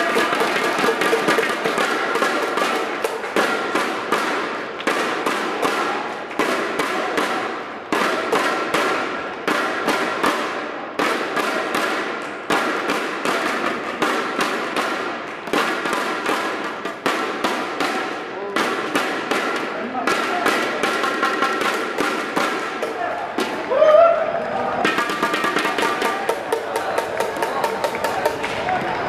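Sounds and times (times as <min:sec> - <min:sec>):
ballpark music with percussive beat: 0:00.0 - 0:23.7, 0:24.8 - 0:28.8.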